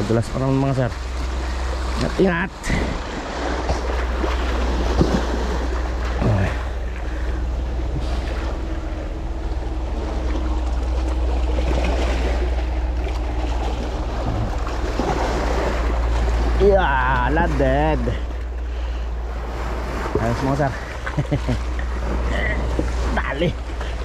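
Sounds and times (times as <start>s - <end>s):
sea waves splashing on boulders: 0.0s - 8.7s, 9.7s - 24.0s.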